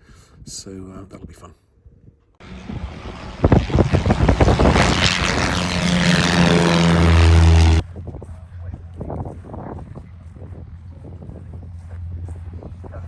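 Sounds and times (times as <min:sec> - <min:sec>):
propeller aircraft engine droning: 0:02.4 - 0:13.0.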